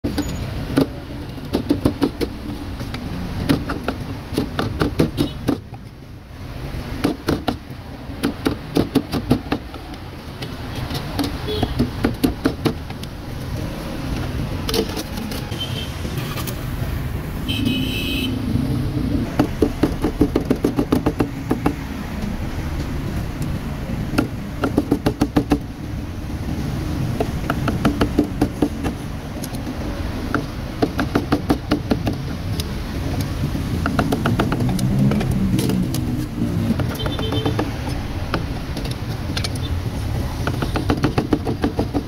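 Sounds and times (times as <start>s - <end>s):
street traffic: 0.0s - 42.0s.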